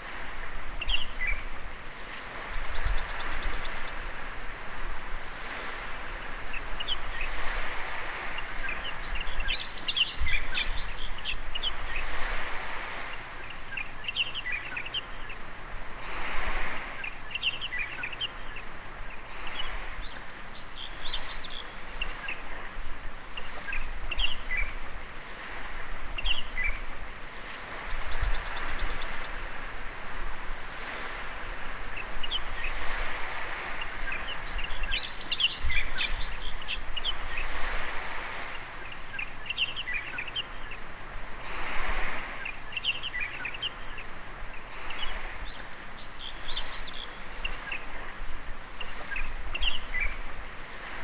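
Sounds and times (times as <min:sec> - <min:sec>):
small waves washing onto beach: 0:00.0 - 0:51.0
songbirds chirping: 0:00.0 - 0:51.0.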